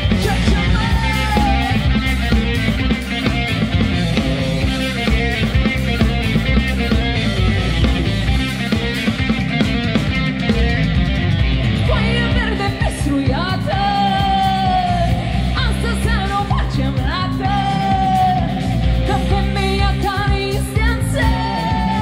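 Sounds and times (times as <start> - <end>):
live band dance music: 0.0 - 22.0.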